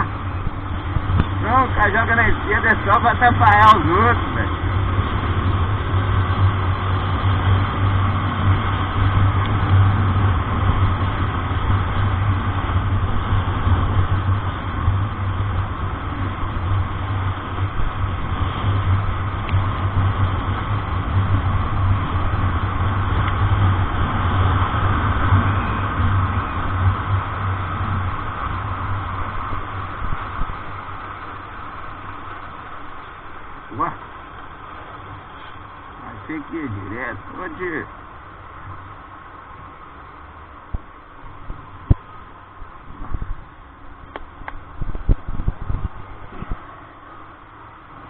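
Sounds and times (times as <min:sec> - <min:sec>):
engine drone: 0:00.0 - 0:48.0
road noise inside vehicle: 0:00.0 - 0:48.0.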